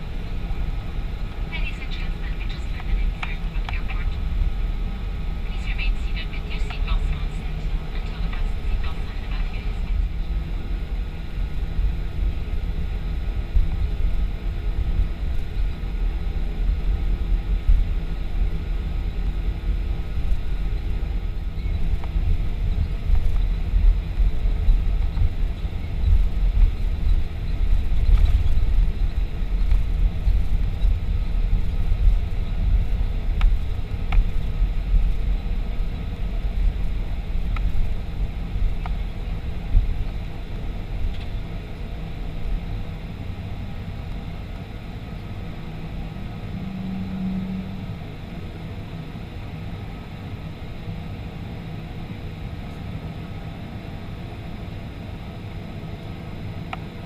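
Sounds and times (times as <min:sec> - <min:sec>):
airliner rumble: 0:00.0 - 0:57.0.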